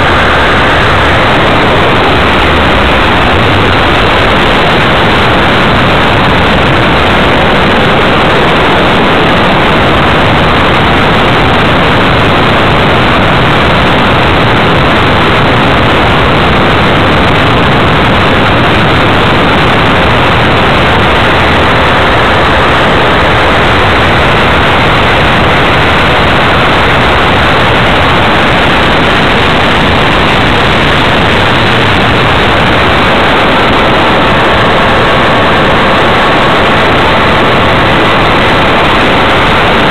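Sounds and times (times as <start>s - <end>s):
loud rushing hiss: 0.0s - 39.9s.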